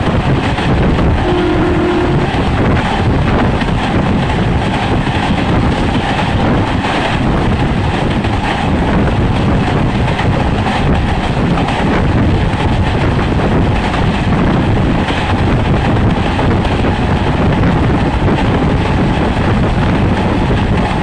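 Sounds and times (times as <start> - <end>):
train wheels rumbling on rails: 0.0 - 21.0
wind buffeting microphone: 0.0 - 21.0.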